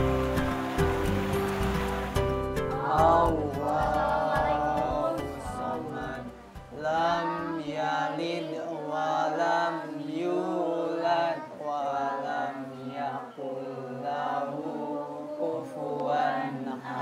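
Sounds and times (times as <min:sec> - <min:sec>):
person chanting melodically: 0:02.7 - 0:17.0.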